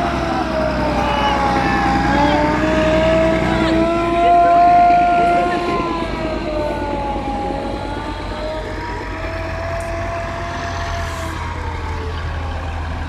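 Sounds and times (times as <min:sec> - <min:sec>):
vehicle engines rumbling: 0:00.0 - 0:13.0
wavering siren: 0:00.0 - 0:13.0.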